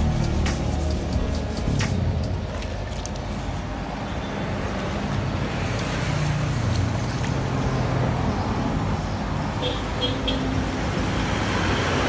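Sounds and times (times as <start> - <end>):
passing vehicles humming: 0.0 - 12.0.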